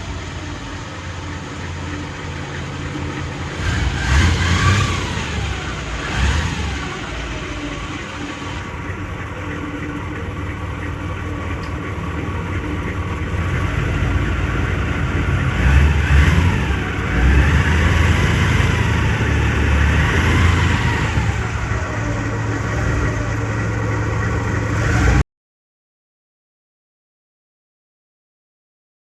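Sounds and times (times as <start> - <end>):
airboat engine and propeller: 0.0 - 25.2.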